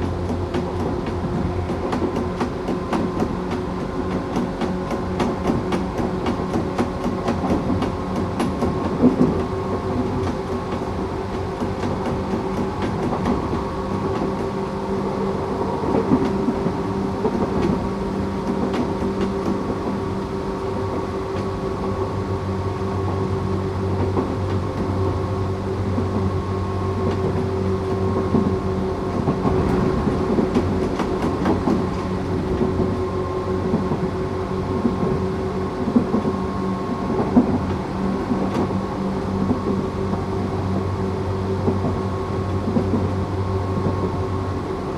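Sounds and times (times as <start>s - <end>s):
train wheels rumbling: 0.0s - 44.9s
electric train motor whine: 8.8s - 44.9s.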